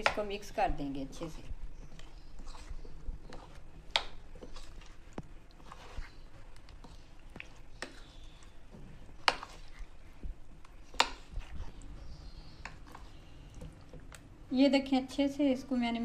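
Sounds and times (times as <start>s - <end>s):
wet batter squelching: 0.0s - 14.8s.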